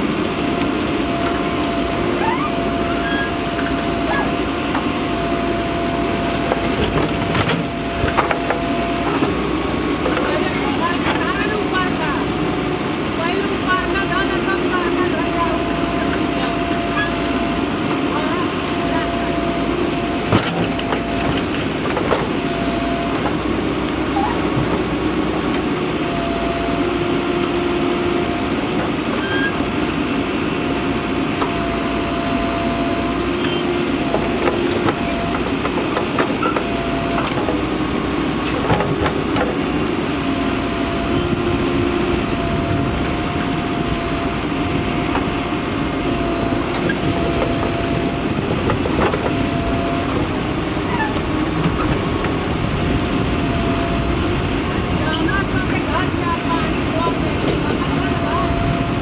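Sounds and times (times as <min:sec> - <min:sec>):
backhoe diesel engine running: 0:00.0 - 0:59.0
hydraulic whine: 0:00.0 - 0:59.0.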